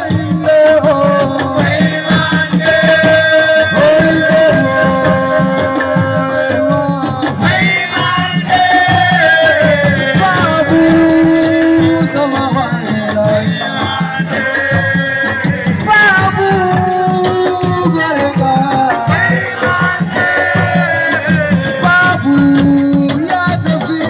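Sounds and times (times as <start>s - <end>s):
fast drum percussion: 0.0s - 24.0s
person singing: 0.0s - 24.0s.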